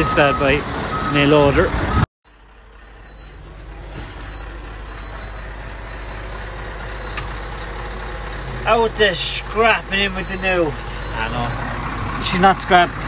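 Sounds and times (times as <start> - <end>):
diesel engine running: 0.0 - 13.0
reversing alarm beeps: 1.9 - 12.5.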